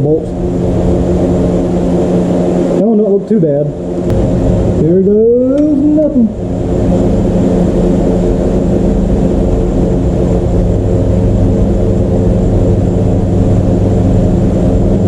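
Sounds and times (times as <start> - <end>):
low mechanical drone: 0.0 - 15.0.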